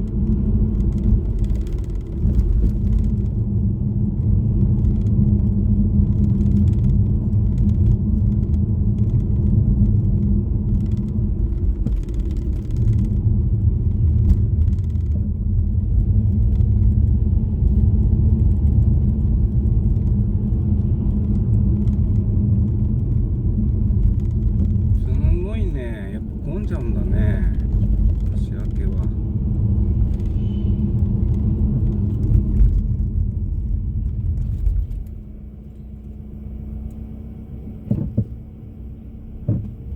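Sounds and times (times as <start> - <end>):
car engine: 0.0 - 39.9
tyre noise on road: 0.0 - 39.9.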